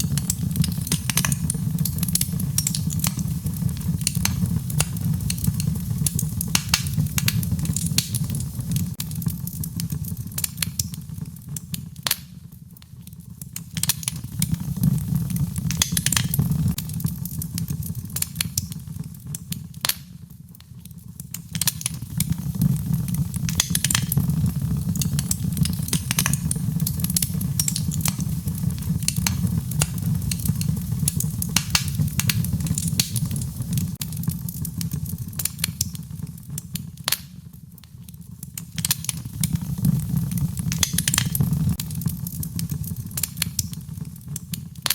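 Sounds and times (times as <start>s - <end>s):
low fire rumble: 0.0s - 44.9s
wood fire crackling and popping: 0.0s - 44.9s.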